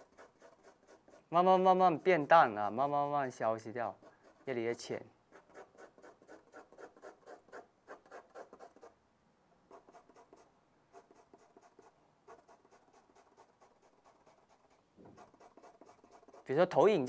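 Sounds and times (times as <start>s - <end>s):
pencil scratching on paper: 0.0s - 9.0s, 9.7s - 16.8s.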